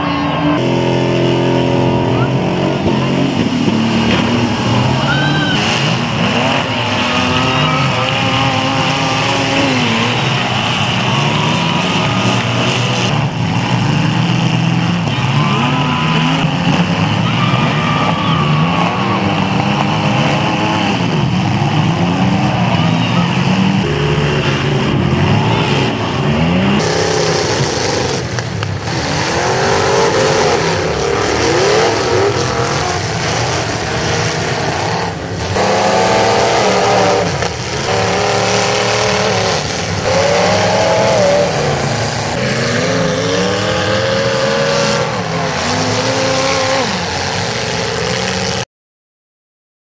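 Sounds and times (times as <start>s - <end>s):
cars crashing: 0.0s - 48.6s
car engines revving hard: 0.0s - 48.7s.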